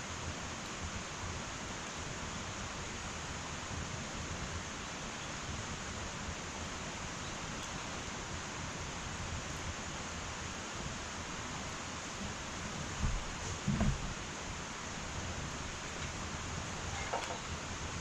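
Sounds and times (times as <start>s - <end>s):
wood fire hissing and popping: 0.0s - 18.0s.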